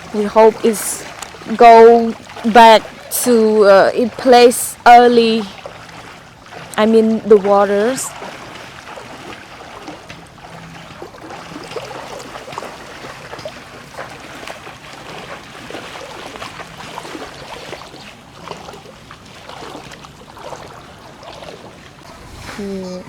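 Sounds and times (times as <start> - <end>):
floodwater sloshing and trickling: 0.0 - 23.0
small water splashes: 0.0 - 23.0.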